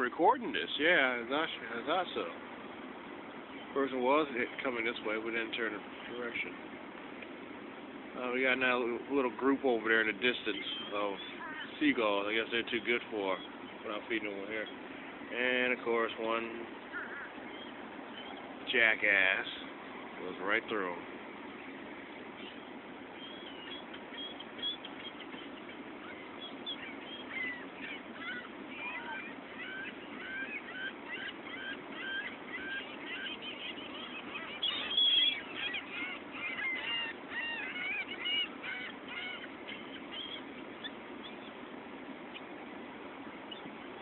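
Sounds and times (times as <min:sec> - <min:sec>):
gulls calling: 0:00.0 - 0:44.0.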